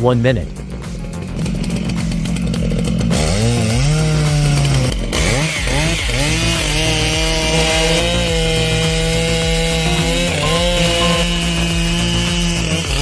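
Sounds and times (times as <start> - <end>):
chainsaw revving: 0.6 - 13.0.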